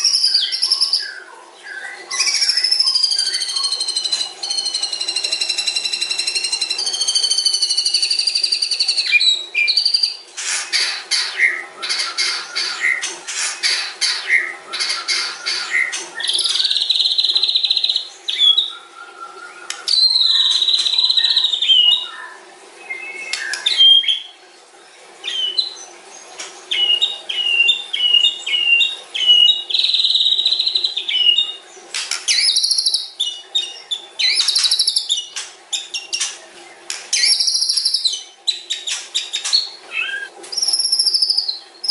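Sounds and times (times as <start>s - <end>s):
bird singing: 0.0s - 10.2s, 10.8s - 24.4s, 25.2s - 36.4s, 37.1s - 41.9s.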